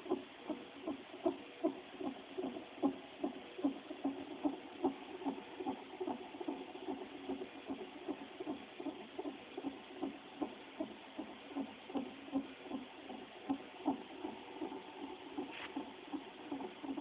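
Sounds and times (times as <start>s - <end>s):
fetal heartbeat doppler pulses: 0.0s - 17.0s.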